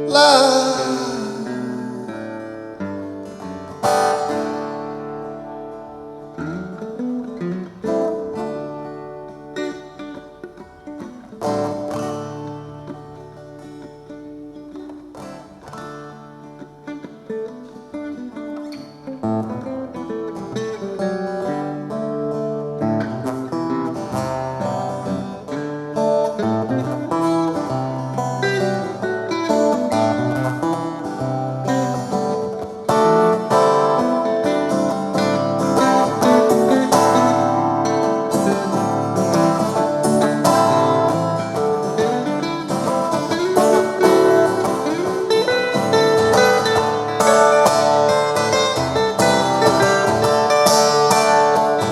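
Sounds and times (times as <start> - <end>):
guitar picked notes over chords: 0.0 - 51.9.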